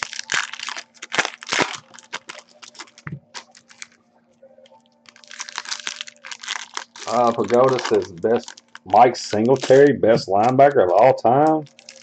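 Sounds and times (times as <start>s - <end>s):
foil wrappers crinkling and tearing: 0.0s - 4.0s, 5.0s - 12.0s.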